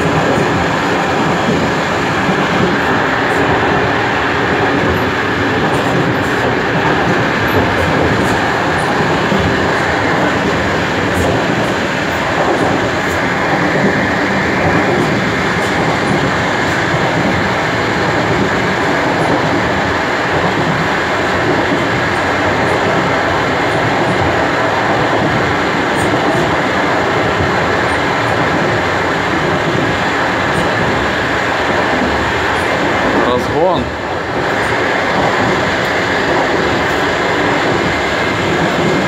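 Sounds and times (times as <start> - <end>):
wheels rumbling on rails: 0.0 - 39.0.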